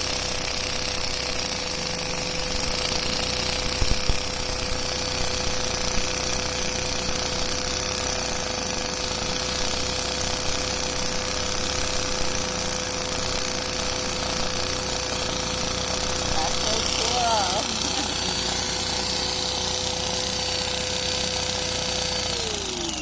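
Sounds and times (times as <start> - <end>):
vacuum cleaner whine: 0.0 - 23.0.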